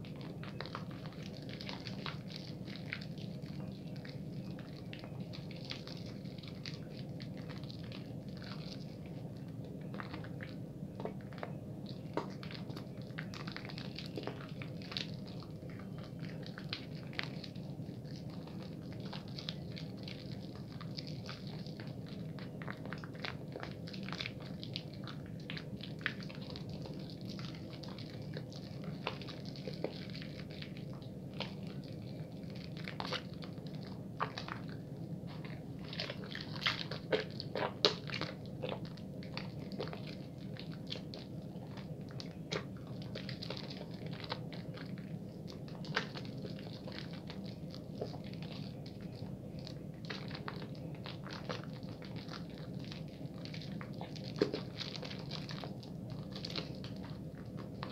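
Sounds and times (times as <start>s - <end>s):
bar soap lathering: 9.8s - 57.9s.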